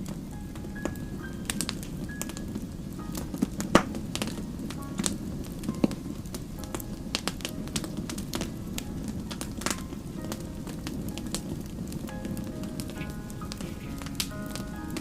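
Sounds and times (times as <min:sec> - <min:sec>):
fire popping and snapping: 0:00.0 - 0:15.0
wood fire crackling: 0:00.0 - 0:15.0.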